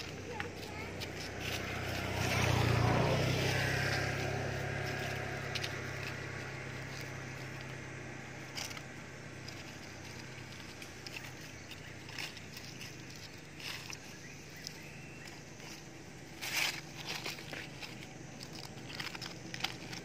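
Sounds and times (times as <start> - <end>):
vehicle engine passing by: 0.0 - 20.0.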